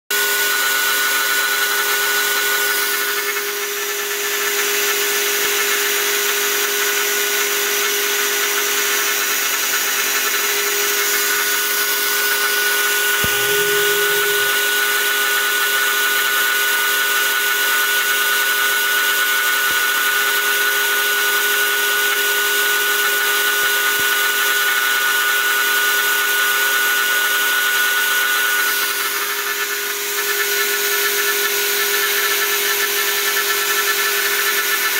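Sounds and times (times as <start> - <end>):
router motor high whine: 0.1 - 34.9.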